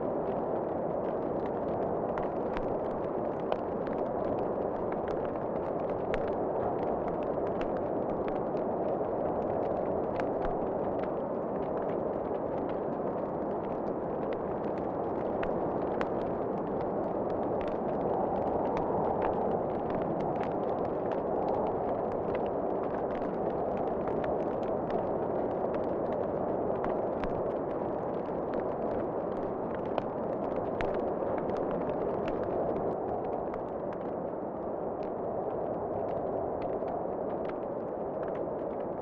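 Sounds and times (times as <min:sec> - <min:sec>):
wood fire crackling and popping: 0:00.2 - 0:34.3.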